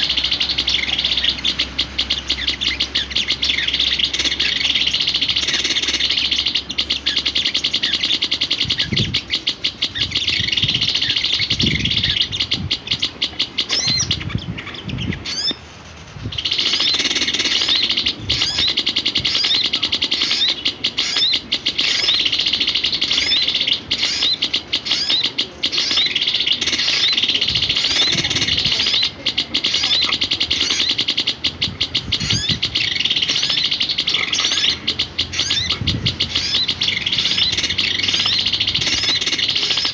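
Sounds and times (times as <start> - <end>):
songbird chirping and twittering: 0.0 - 39.9.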